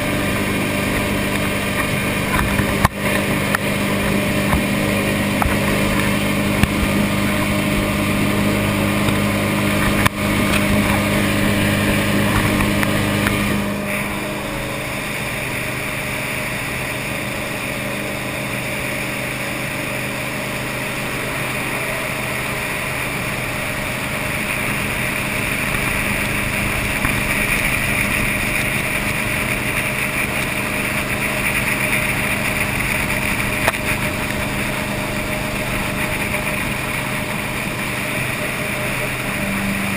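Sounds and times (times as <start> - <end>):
jet boat engine drone: 0.0 - 39.9
rush of water and air: 0.0 - 39.9.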